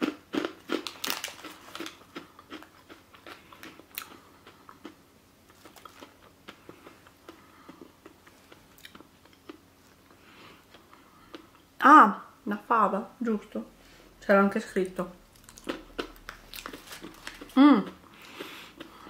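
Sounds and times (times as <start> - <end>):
crunching and chewing snack: 0.0 - 11.6, 15.3 - 19.0.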